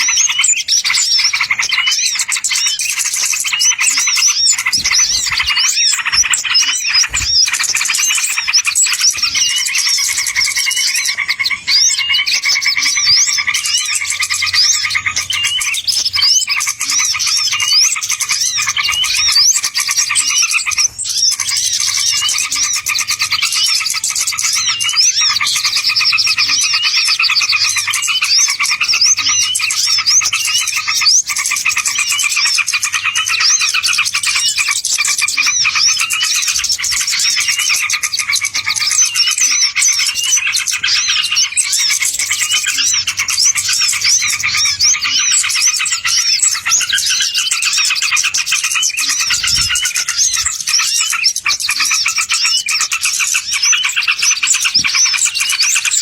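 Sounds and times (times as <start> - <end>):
many small birds chirping: 0.0 - 56.0.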